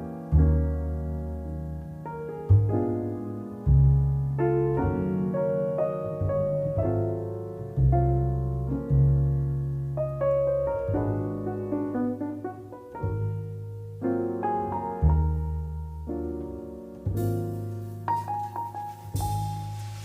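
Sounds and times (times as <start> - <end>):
jazz piano ballad: 0.0 - 20.0.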